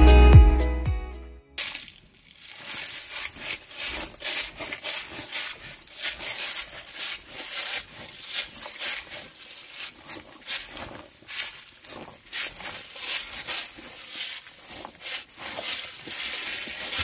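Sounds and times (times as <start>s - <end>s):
footsteps crunching dry leaves: 1.6s - 17.0s.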